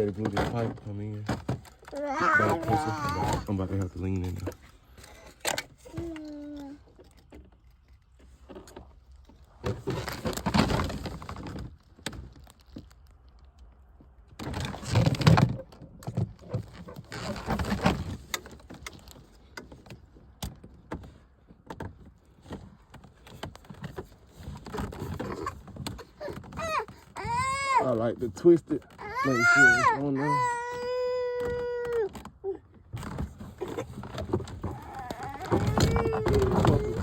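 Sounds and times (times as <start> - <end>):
rustling and scraping: 0.0 - 37.0.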